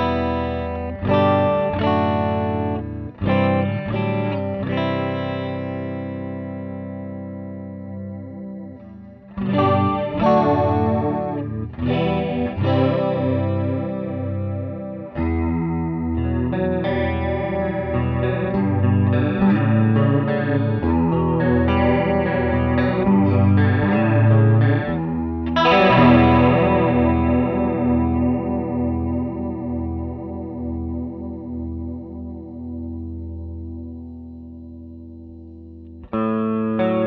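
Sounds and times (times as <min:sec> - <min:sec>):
electric guitar with chorus effect: 0:00.0 - 0:37.0.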